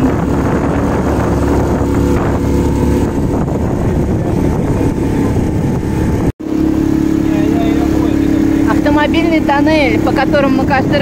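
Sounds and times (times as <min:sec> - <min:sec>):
outboard motor running: 0:00.0 - 0:11.0
wind noise on microphone: 0:00.0 - 0:11.0.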